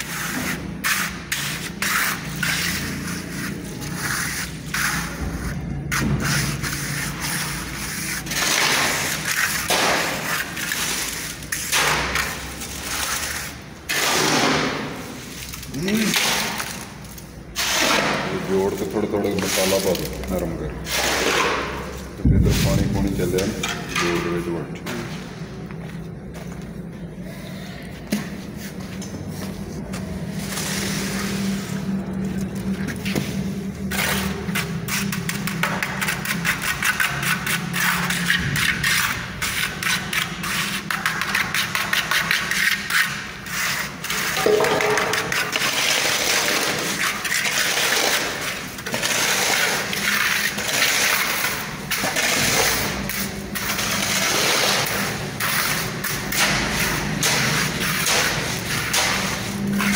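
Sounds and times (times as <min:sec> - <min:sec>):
mortar being scraped by hand: 0:00.0 - 0:16.9, 0:28.3 - 0:59.9.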